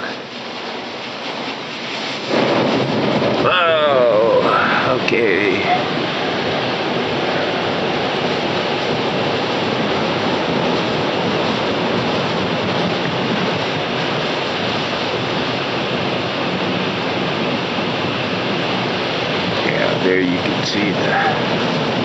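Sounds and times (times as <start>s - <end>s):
car wash water jets: 0.0s - 22.0s.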